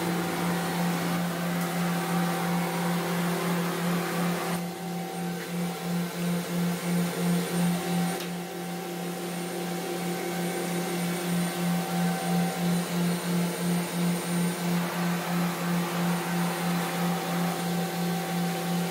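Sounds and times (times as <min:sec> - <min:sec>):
pulsing machine hum: 0:00.0 - 0:18.9.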